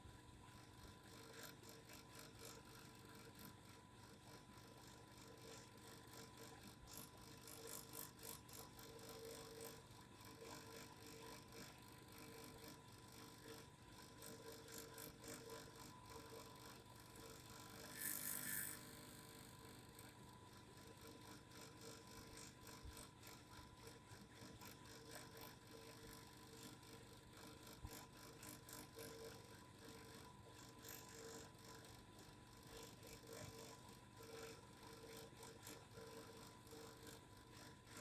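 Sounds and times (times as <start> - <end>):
faint vibration hum: 0.0 - 38.0.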